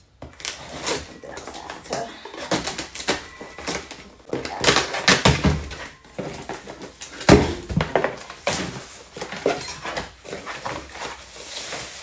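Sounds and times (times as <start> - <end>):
cardboard rustling and scraping: 0.3 - 12.0.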